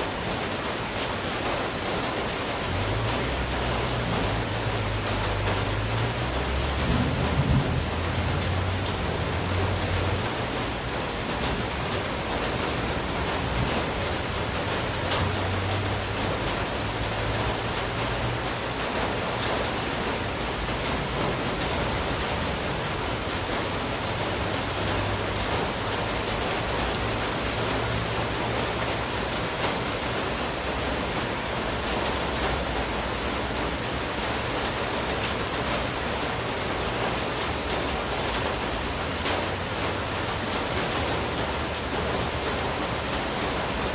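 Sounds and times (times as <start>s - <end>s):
heavy rain hissing: 0.0s - 43.9s.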